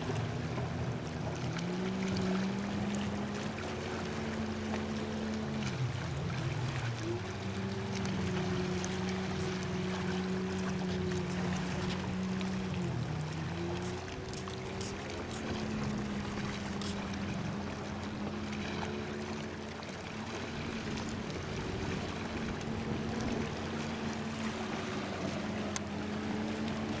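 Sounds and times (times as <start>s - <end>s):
boat engine drone: 0.0s - 27.0s
lapping water: 0.0s - 27.0s.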